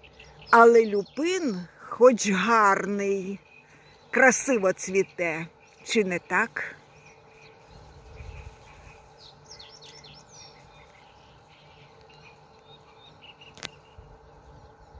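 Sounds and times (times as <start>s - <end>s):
songbird chirping: 0.0s - 14.9s.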